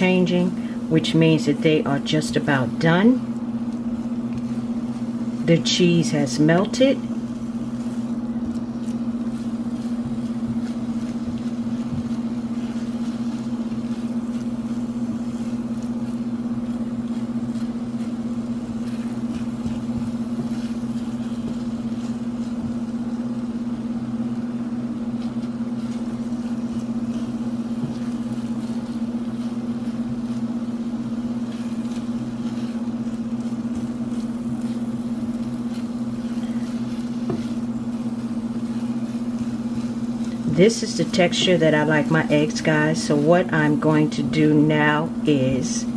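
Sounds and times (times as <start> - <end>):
machine hum with air rush: 0.0 - 45.9
spatula scraping skillet: 3.7 - 44.4.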